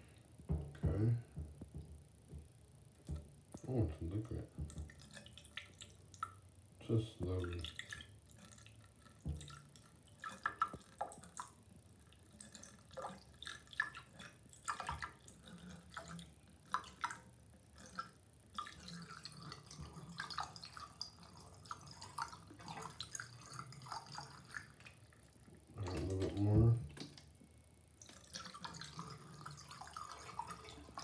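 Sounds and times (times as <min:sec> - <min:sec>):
liquid trickling into drain: 0:03.6 - 0:27.2, 0:28.0 - 0:31.0.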